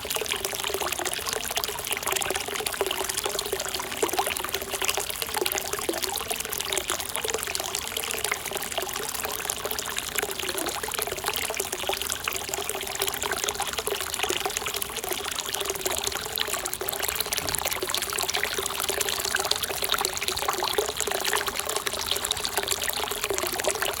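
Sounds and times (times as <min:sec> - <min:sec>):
water pouring into pool: 0:00.0 - 0:24.0.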